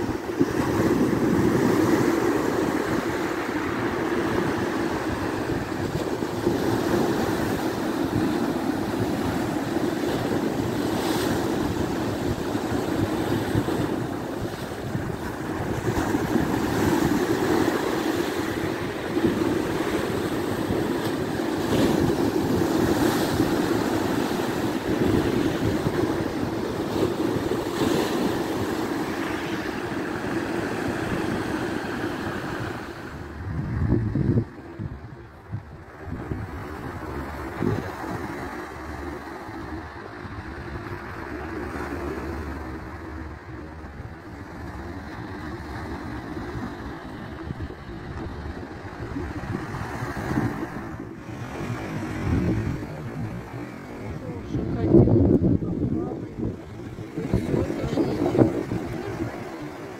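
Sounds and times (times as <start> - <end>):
sea surf washing ashore: 0.0 - 59.9
wind buffeting microphone: 0.0 - 59.9.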